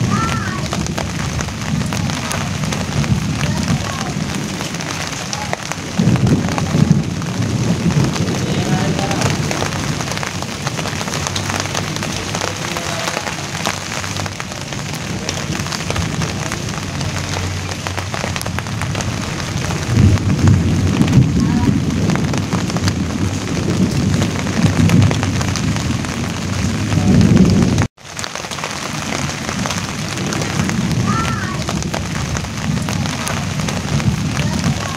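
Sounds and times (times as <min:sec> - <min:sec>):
rain on leaves: 0:00.0 - 0:34.9
thunder rumbling: 0:00.0 - 0:34.9.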